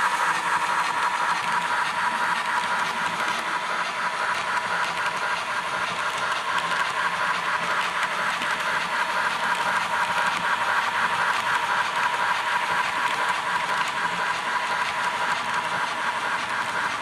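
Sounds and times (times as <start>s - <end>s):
fast rhythmic flutter: 0.0s - 17.0s
train running: 0.0s - 17.0s.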